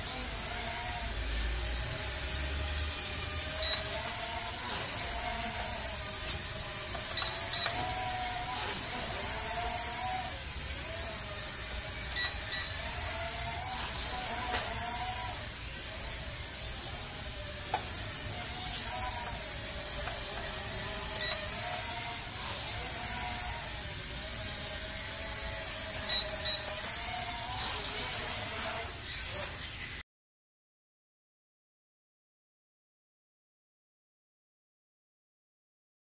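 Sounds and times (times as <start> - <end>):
drone propellers whining: 0.0 - 30.0.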